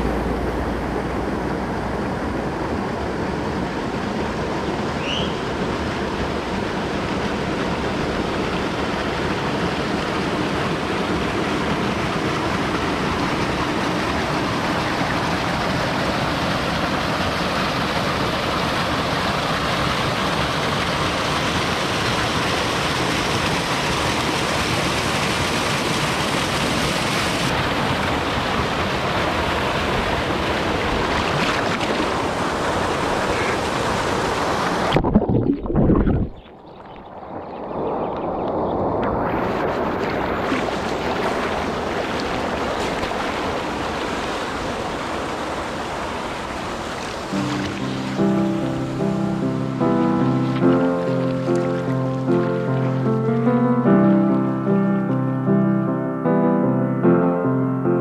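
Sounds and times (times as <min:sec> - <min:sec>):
small waterfall: 0:00.0 - 0:35.0, 0:36.5 - 0:53.3
river water rushing over rocks: 0:00.0 - 0:36.2, 0:38.1 - 0:53.4.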